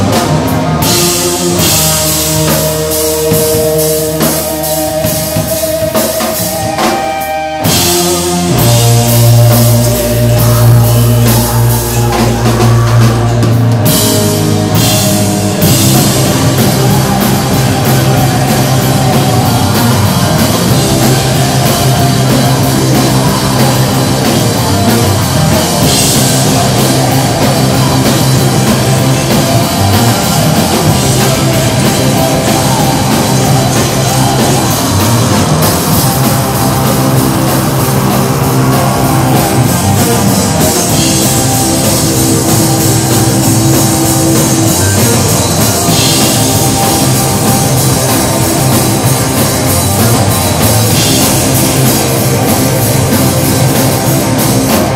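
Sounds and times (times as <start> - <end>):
heavy rock band playing: 0.0 - 54.9.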